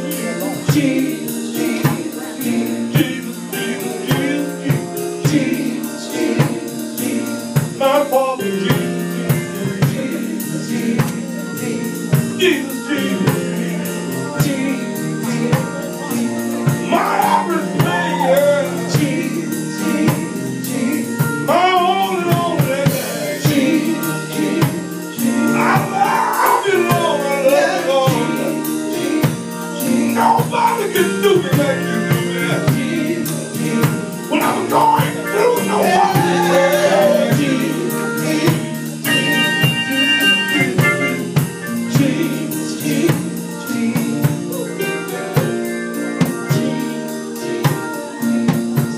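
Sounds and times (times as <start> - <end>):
person singing: 0.0 - 48.2
drum kit beat: 0.0 - 48.9
sustained held chords: 0.0 - 48.9.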